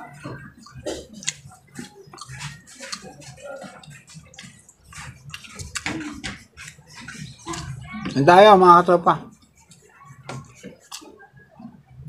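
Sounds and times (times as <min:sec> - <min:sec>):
wet chewing and lip-smacking: 0:00.1 - 0:07.8, 0:09.7 - 0:11.8.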